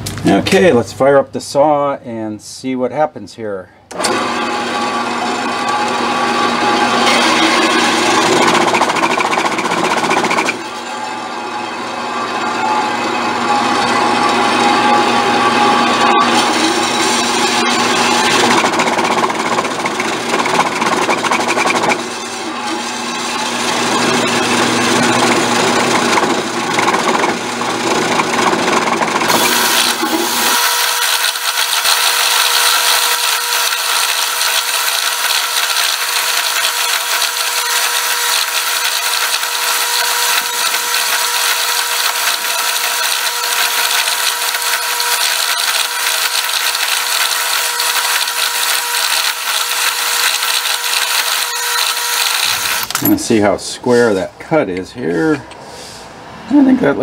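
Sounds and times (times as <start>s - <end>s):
bandsaw cutting steel tube: 3.9s - 53.4s.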